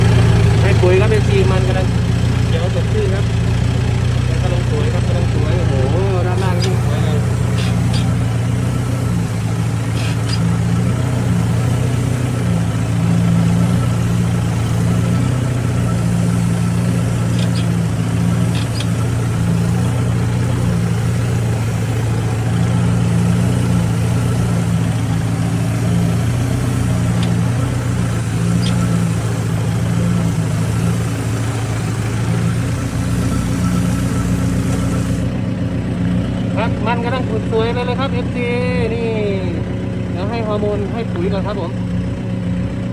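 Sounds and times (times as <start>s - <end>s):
tractor diesel engine humming: 0.0s - 42.9s.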